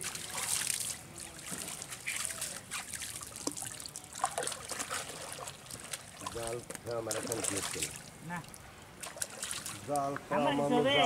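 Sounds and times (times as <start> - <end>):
small splashes: 0.0 - 10.3
water splashing and trickling: 0.0 - 11.0.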